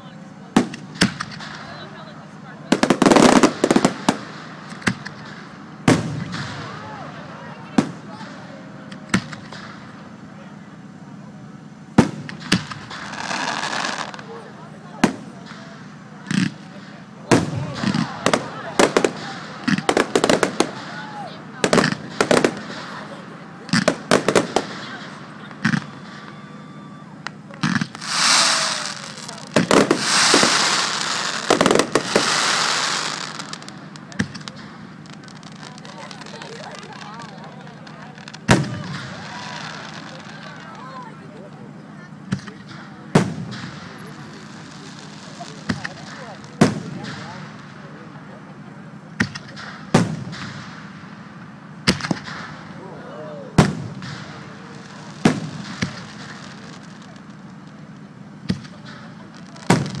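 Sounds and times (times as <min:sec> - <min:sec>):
fireworks crackling hiss: 0:00.0 - 1:00.0
fireworks bangs: 0:00.2 - 0:52.9, 0:53.5 - 1:00.0.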